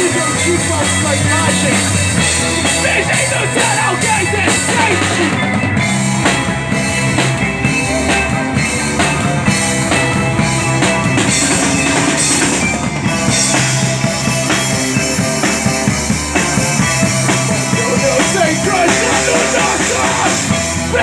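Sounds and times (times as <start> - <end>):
bass guitar: 0.0 - 21.0
distorted guitars: 0.0 - 21.0
drum-kit beat: 0.0 - 21.0.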